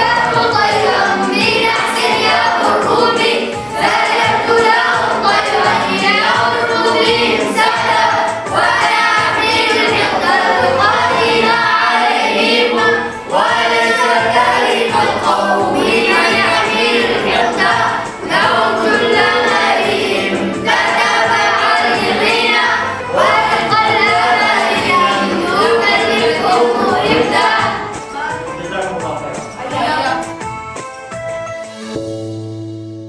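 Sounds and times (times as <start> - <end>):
voices chanting melodic phrases: 0.0 - 31.0.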